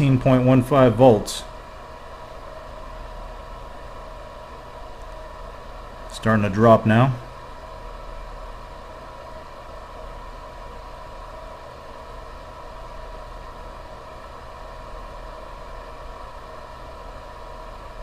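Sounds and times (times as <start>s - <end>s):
steady hum and hiss: 0.0s - 18.0s.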